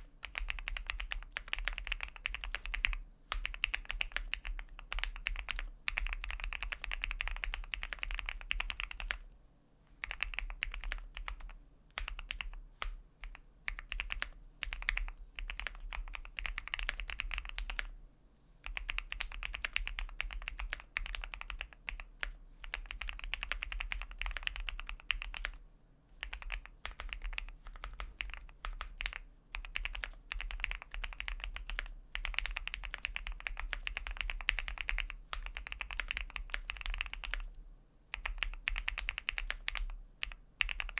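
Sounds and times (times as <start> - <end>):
mechanical keyboard typing: 0.2 - 9.2, 10.0 - 17.9, 18.6 - 25.6, 26.2 - 37.5, 38.1 - 40.9.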